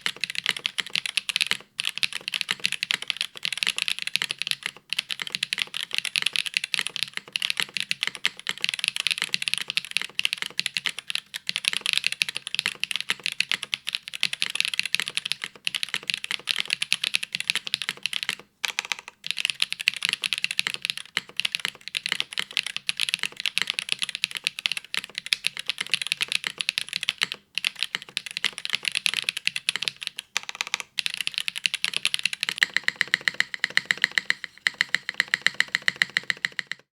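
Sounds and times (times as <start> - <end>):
mechanical keyboard keystroke clacks: 0.0 - 36.9.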